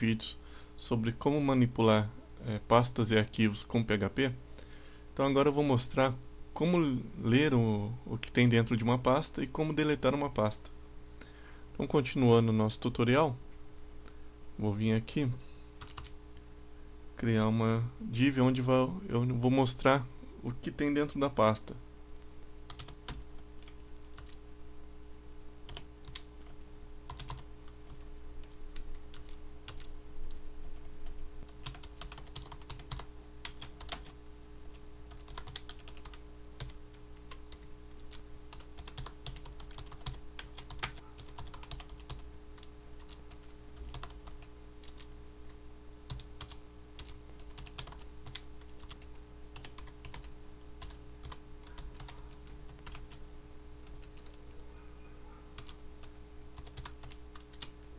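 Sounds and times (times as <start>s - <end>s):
low electrical hum: 0.0s - 57.9s.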